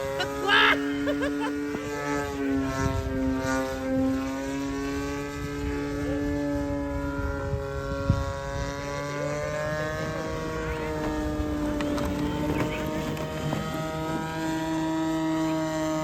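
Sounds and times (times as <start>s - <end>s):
model airplane engine running: 0.0s - 16.0s.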